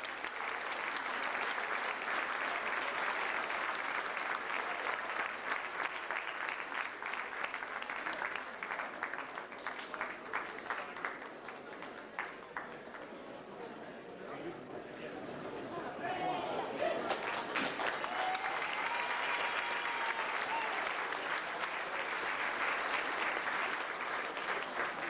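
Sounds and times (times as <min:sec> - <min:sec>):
crowd applauding: 0:00.0 - 0:13.5, 0:15.7 - 0:25.0.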